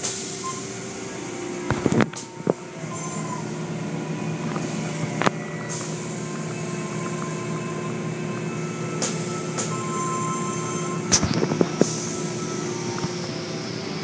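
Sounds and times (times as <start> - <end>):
car wash machinery hum: 0.0 - 14.0.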